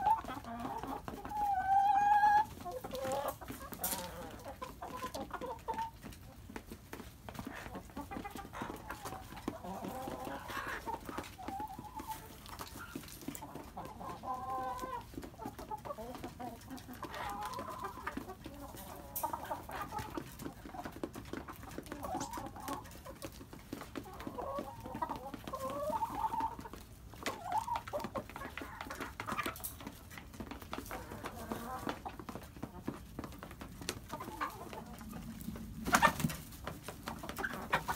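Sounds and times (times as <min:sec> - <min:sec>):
hens clucking: 0:00.0 - 0:37.9.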